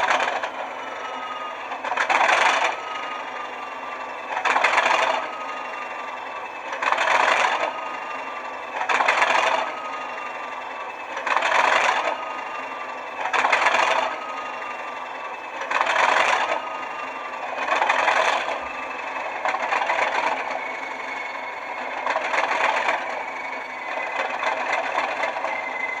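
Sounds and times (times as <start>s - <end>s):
diesel locomotive engine idling: 0.0s - 26.0s
turbocharger whine: 0.0s - 26.0s.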